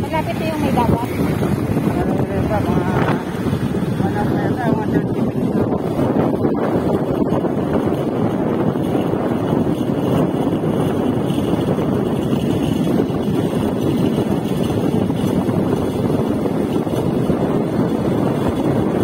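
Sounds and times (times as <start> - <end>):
motorcycle running: 0.0 - 19.0
road noise: 0.0 - 19.0
wind buffeting microphone: 0.0 - 19.0.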